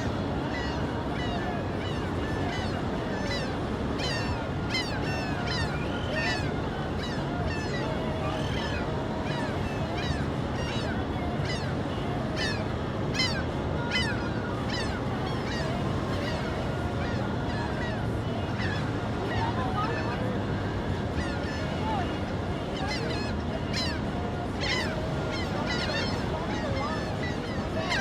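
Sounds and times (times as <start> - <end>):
seagulls squawking: 0.0 - 28.0.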